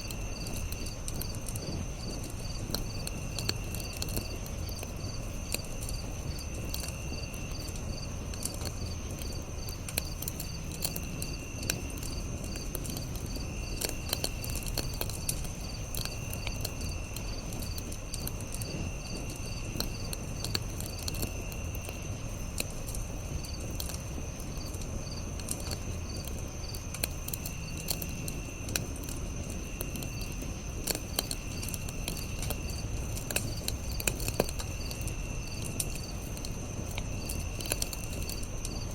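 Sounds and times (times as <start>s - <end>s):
campfire crackling and popping: 0.0s - 38.9s
insect chirping call: 0.0s - 38.9s
insects trilling: 0.0s - 38.9s.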